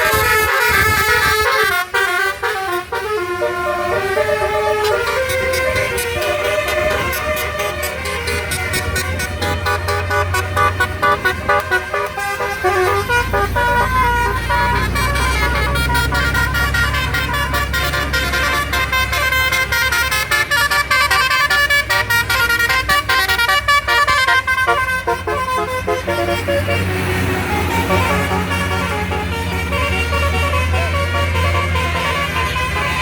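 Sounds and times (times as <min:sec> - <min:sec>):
musical horn playing a tune: 0:00.0 - 0:33.0
vehicle running hum: 0:00.0 - 0:33.0.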